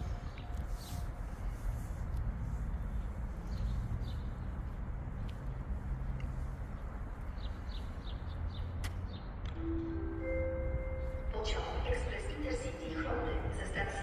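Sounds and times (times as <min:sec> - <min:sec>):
low rumble of construction site: 0:00.0 - 0:14.0.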